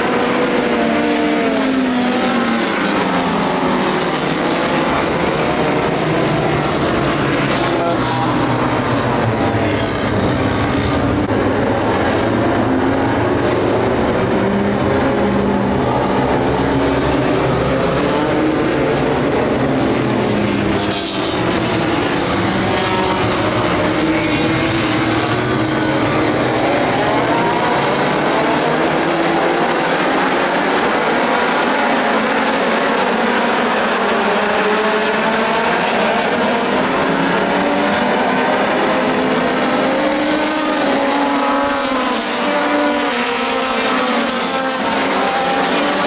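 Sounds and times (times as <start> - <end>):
race car engines: 0.0 - 46.0.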